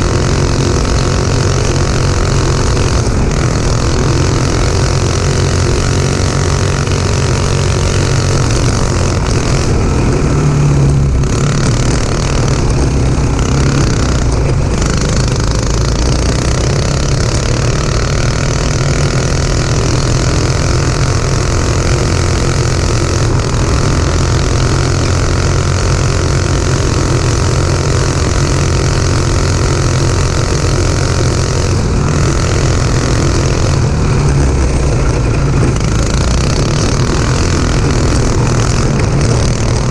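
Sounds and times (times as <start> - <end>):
go-kart engine running hard: 0.0 - 39.9
tyres on dirt and gravel: 0.0 - 39.9.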